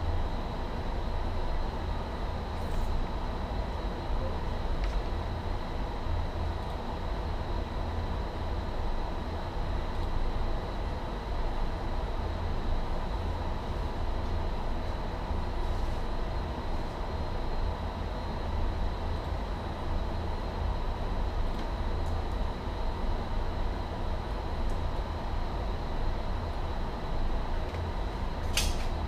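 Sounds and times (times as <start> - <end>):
ventilation rumble and hiss: 0.0 - 29.0.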